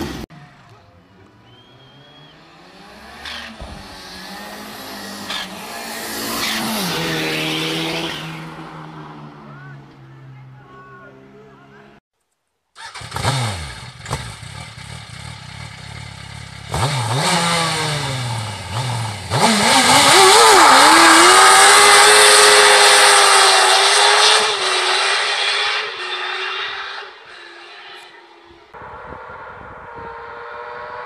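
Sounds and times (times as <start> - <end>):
car engine revving: 1.1 - 11.6, 12.8 - 31.0.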